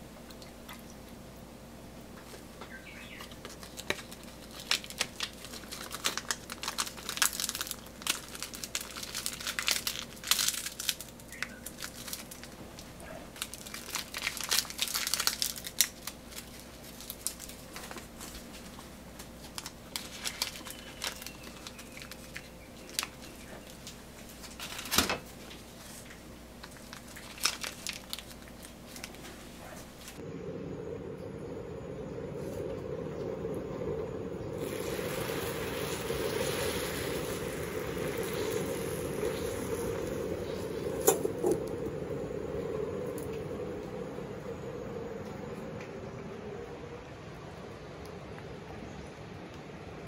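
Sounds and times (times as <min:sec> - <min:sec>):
seaweed sheets crackling: 0:02.9 - 0:30.2, 0:32.2 - 0:45.8.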